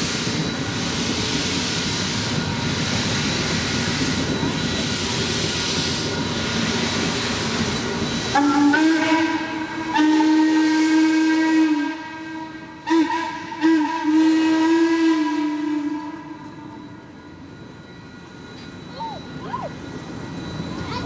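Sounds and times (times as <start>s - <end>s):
steam locomotive whistle: 0.0s - 17.2s
steam hissing: 0.0s - 21.0s.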